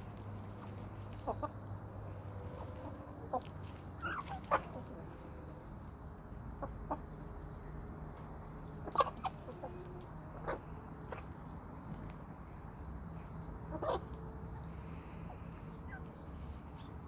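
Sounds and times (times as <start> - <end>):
chickens clucking softly: 0.1 - 12.4, 13.5 - 16.9.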